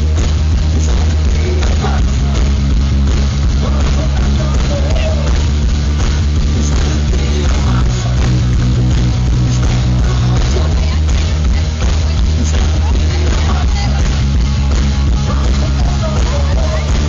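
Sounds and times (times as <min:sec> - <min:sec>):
heavy bass: 0:00.0 - 0:17.0
rock band playing live: 0:00.0 - 0:17.0.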